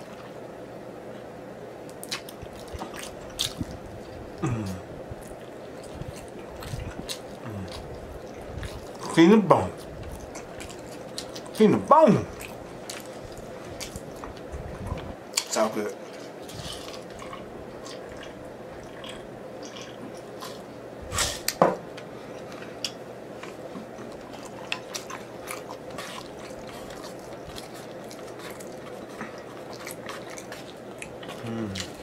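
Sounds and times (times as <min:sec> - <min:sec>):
person chewing: 0:01.9 - 0:09.2, 0:09.8 - 0:11.7, 0:12.3 - 0:21.6, 0:22.3 - 0:32.0.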